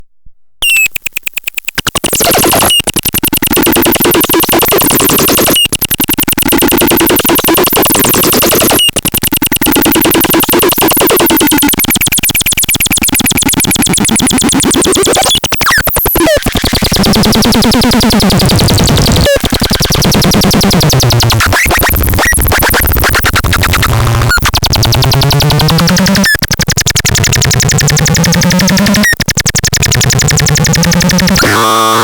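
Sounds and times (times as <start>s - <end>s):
buzzy synthesizer pulsing: 1.6s - 32.0s.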